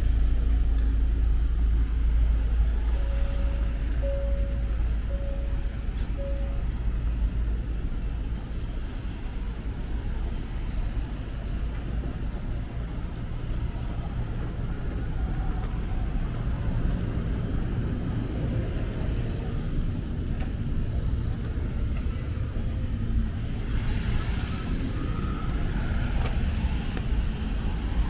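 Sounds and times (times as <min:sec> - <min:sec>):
city road traffic rumble: 0:00.0 - 0:28.0.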